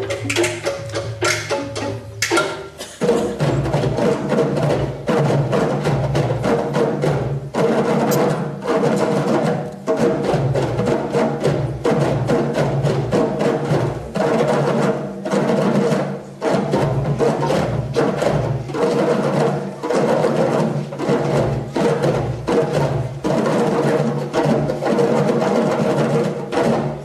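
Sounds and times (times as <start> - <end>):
hand drums playing fast rhythm: 0.0 - 27.0.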